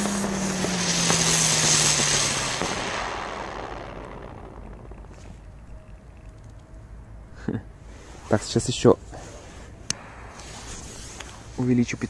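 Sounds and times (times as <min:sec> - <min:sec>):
firework sparks hissing: 0:00.0 - 0:06.2, 0:07.9 - 0:12.0
low spinning whir: 0:00.0 - 0:08.5, 0:09.5 - 0:12.0.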